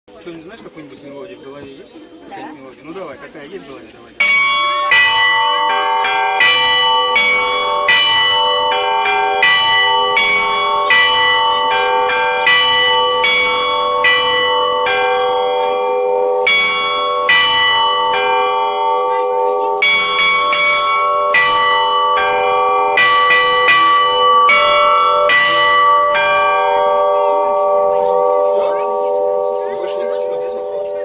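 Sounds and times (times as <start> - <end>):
church bells ringing: 4.2 - 31.0.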